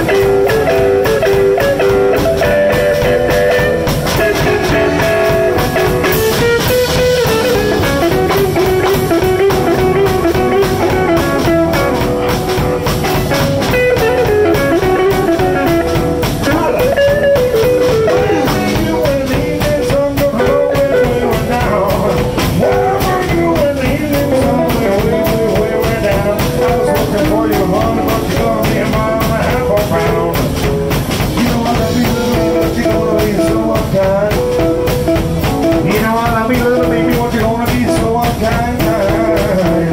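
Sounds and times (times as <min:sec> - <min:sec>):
bending lead melody line: 0:00.0 - 0:39.9
drum kit beat: 0:00.0 - 0:39.9
electric guitar: 0:00.0 - 0:39.9.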